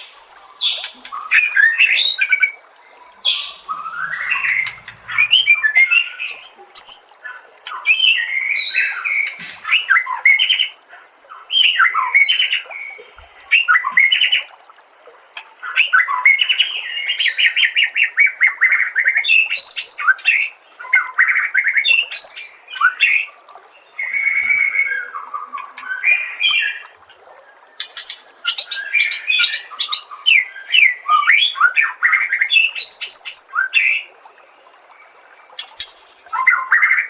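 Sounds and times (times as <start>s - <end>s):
songbird singing: 0.0s - 14.5s, 15.4s - 37.0s.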